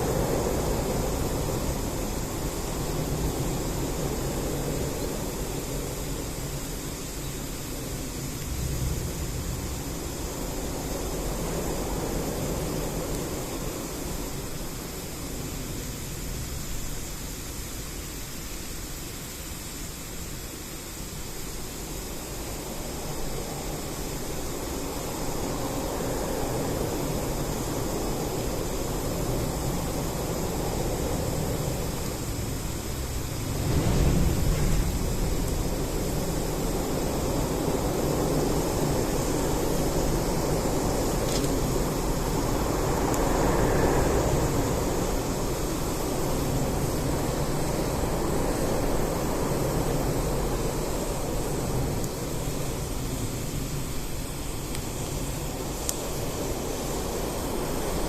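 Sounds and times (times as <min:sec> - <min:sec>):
fire crackle: 0:00.0 - 0:17.2, 0:19.0 - 0:58.0
bonfire burning with rushing noise: 0:00.0 - 0:58.0.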